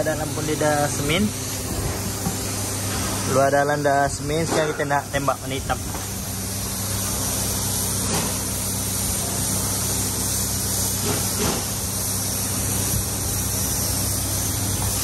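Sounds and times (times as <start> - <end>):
spray gun hissing: 0.0 - 4.3, 5.0 - 15.0.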